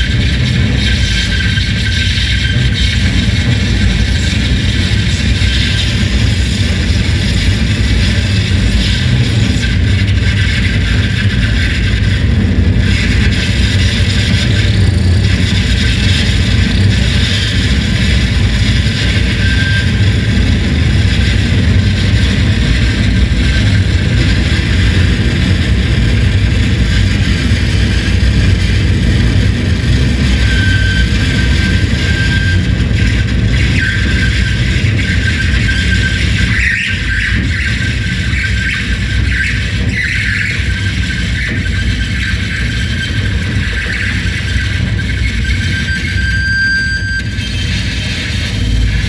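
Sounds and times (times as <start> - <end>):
distorted electronic noise: 0.0 - 49.0
high feedback whines: 0.0 - 49.0
rising squeal: 0.0 - 49.0.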